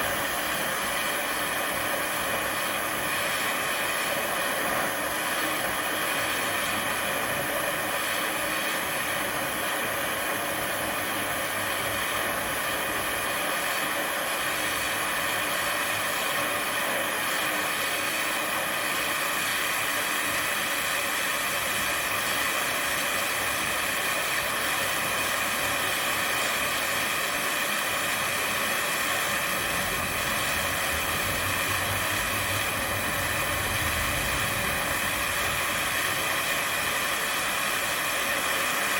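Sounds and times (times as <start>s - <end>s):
gas burner flame hissing: 0.0s - 38.9s.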